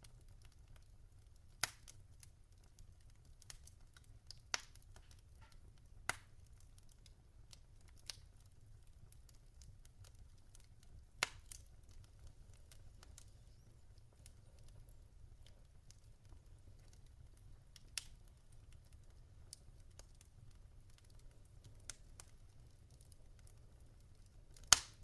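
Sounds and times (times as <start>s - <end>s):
fire popping: 0.0s - 25.0s
logs crackling in fireplace: 0.0s - 25.0s.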